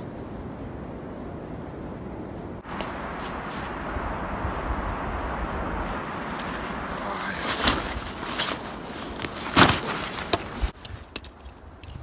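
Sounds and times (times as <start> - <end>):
background hiss: 1.2 - 11.8.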